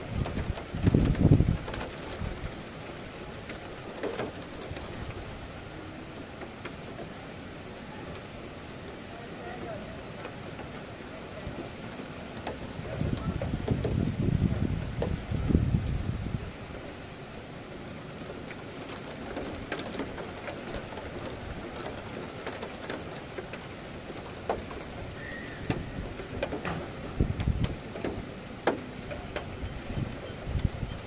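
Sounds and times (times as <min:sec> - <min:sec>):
raindrops ticking close: 0:00.0 - 0:31.0
steady rain: 0:00.0 - 0:31.0
wind gusts buffeting microphone: 0:00.0 - 0:31.0.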